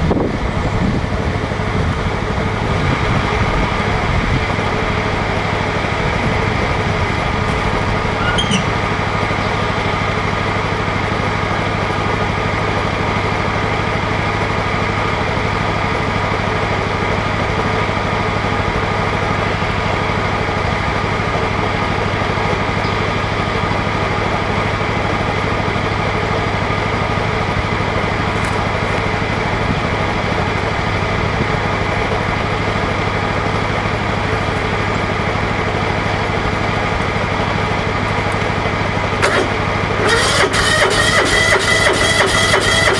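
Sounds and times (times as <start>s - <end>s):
lawn tractor engine idling: 1.1s - 42.9s.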